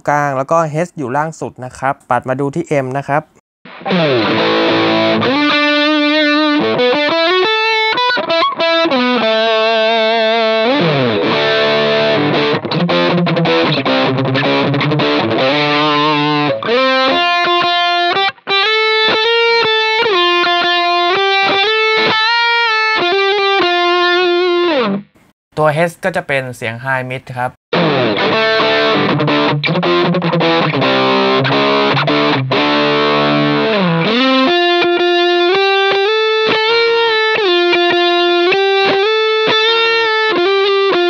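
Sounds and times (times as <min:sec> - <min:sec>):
distorted electric guitar riff: 0:03.7 - 0:25.2, 0:27.7 - 0:41.0.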